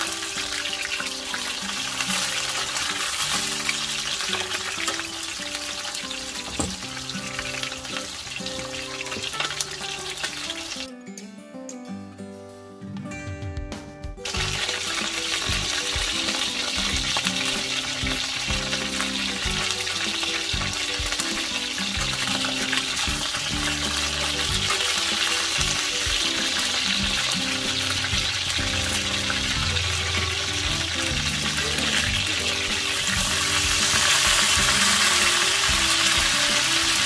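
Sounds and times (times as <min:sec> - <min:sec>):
food sizzling in hot oil: 0:00.0 - 0:10.9, 0:14.2 - 0:37.0
background music: 0:00.0 - 0:37.0.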